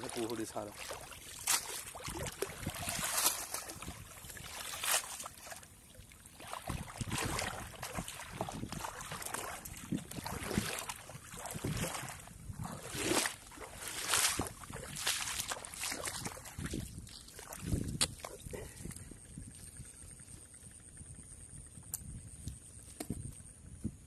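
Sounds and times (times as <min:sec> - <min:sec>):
water splashing and sloshing: 0:00.0 - 0:21.1.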